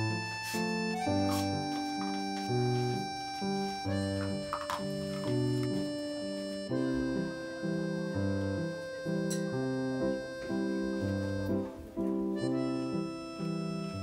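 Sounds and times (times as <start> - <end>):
light instrumental music: 0.0 - 14.0.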